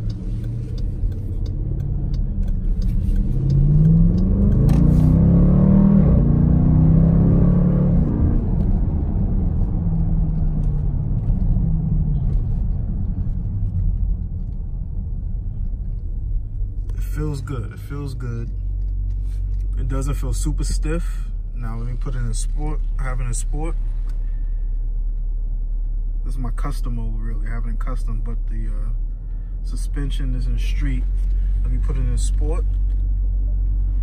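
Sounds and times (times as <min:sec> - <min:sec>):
car engine accelerating: 0:00.0 - 0:34.0
road and tyre rumble: 0:00.0 - 0:34.0.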